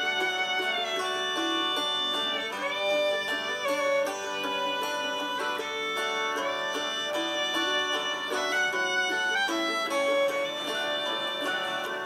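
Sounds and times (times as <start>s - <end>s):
fiddle tune: 0.0s - 12.0s
plucked strings: 0.0s - 12.0s.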